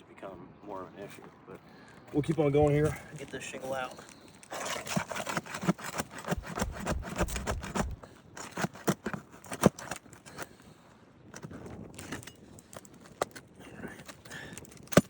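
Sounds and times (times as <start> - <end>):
shingle tool scraping and prying: 2.2 - 15.0.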